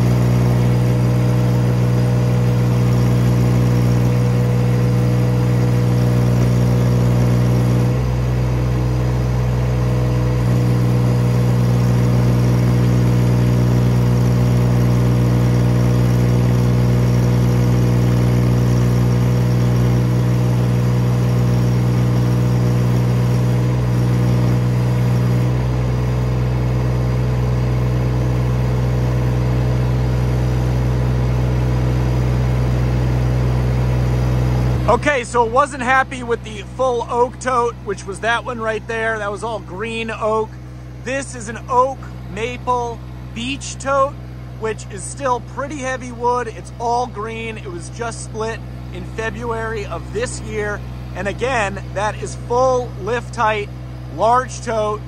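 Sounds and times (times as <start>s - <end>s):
skid steer engine under load: 0.0s - 55.0s.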